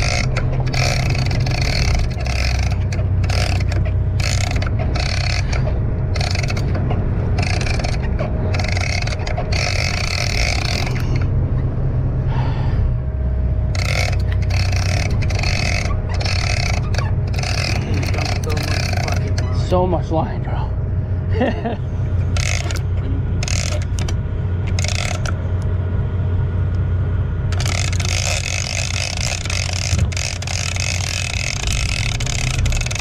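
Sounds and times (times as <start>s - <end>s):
fishing reel whirring: 0.0s - 11.4s, 13.7s - 19.8s, 22.1s - 25.6s, 27.5s - 33.0s
boat engine droning: 0.0s - 33.0s.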